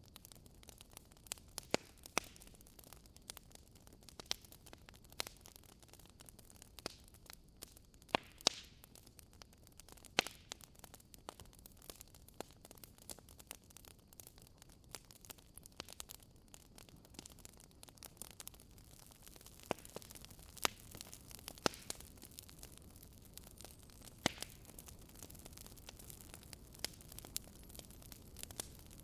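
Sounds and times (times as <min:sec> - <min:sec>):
faint steady hiss: 0:00.0 - 0:29.0
wood fire crackling: 0:00.0 - 0:29.0.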